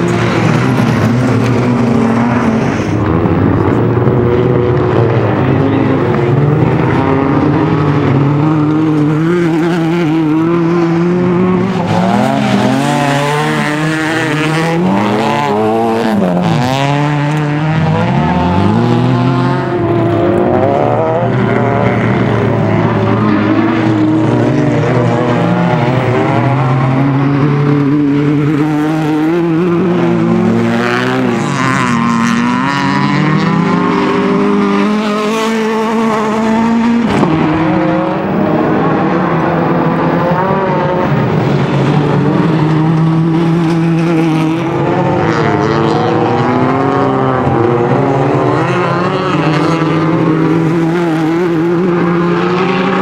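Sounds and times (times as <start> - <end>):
car engine revving hard: 0.0 - 53.0.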